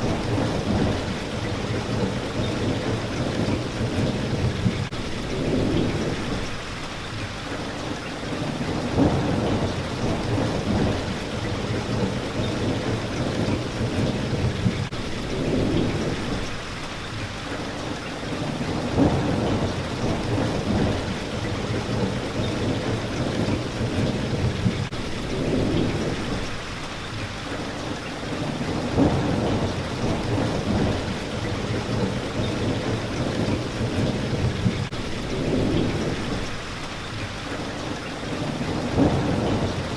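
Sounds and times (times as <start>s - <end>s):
thunder rumbling: 0.0s - 6.6s, 8.3s - 16.6s, 18.3s - 26.7s, 28.3s - 36.8s, 38.3s - 39.9s
rain hitting a window: 0.0s - 39.9s.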